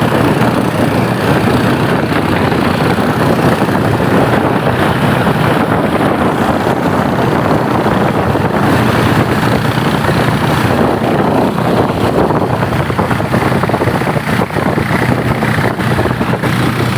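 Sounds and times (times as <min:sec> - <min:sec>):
motorboat engine droning: 0:00.0 - 0:16.9
wind rushing over microphone: 0:00.0 - 0:16.9.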